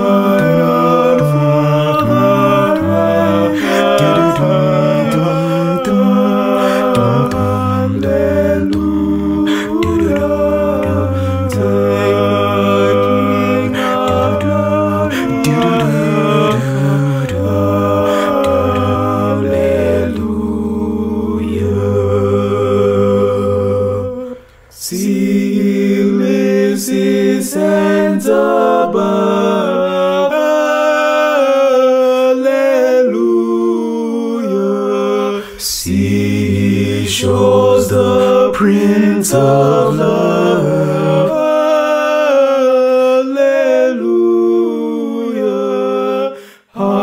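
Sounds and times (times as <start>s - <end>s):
instrumental hymn music: 0.0s - 47.0s.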